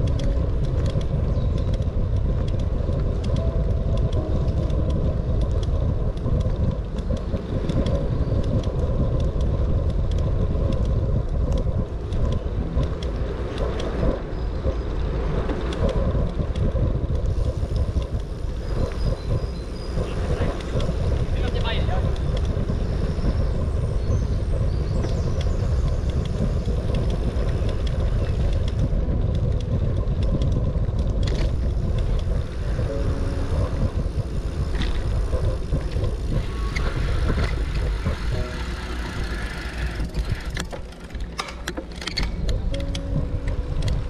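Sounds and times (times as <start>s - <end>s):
bicycle tyres rumbling on asphalt: 0.0s - 44.0s
bike rattling and clicking: 0.0s - 44.0s.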